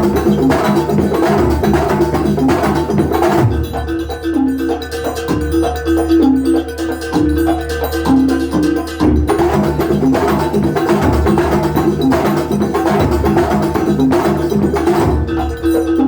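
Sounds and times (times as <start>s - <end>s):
drums: 0.0s - 16.0s
struck metallophone melody: 0.0s - 16.0s.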